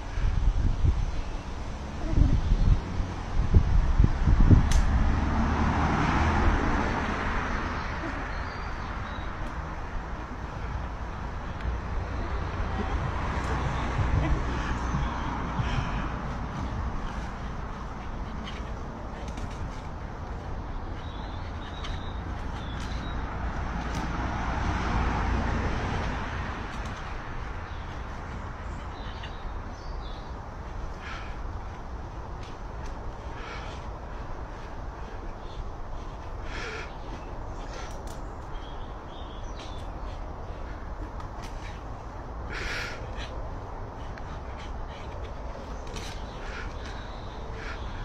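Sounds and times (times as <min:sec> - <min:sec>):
traffic rumble: 0:00.0 - 0:48.0
vehicle passing: 0:01.4 - 0:48.0.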